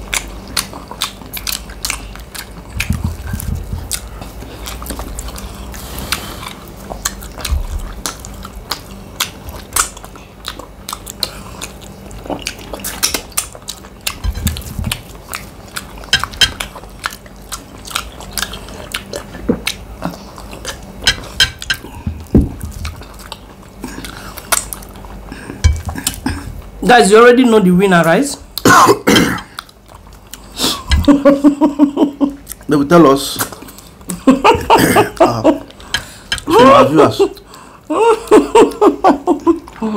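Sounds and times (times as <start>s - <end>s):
people chewing: 0.0s - 26.9s, 28.0s - 39.9s.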